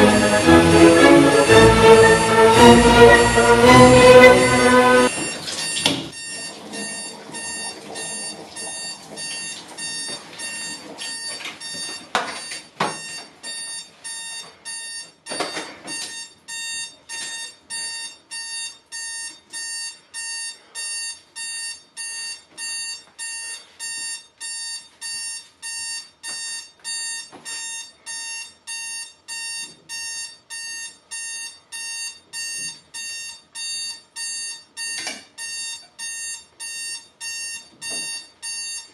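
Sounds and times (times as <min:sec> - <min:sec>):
digital alarm clock beeping: 0:00.2 - 0:38.9.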